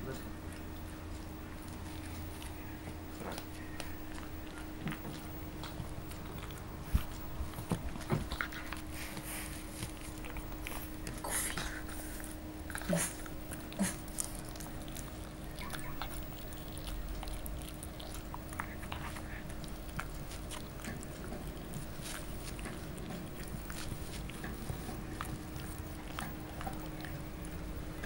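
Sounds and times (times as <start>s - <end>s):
puppy chewing: 0.0s - 28.0s.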